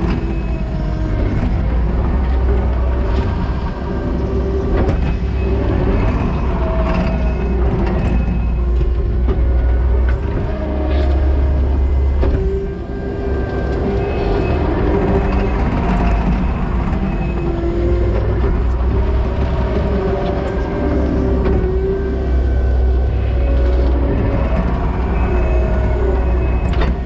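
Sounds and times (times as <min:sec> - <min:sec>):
diesel engine under load: 0:00.0 - 0:27.0
wavering hydraulic whine: 0:00.0 - 0:27.0.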